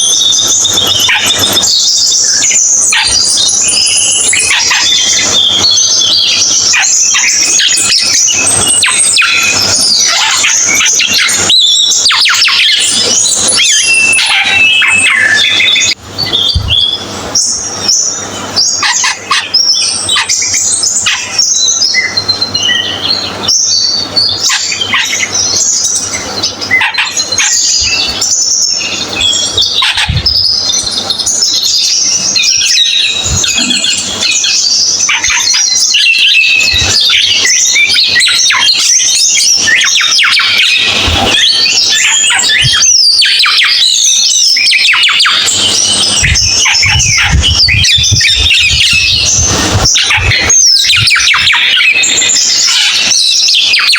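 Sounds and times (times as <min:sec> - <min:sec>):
starling singing: 0:00.0 - 0:53.9.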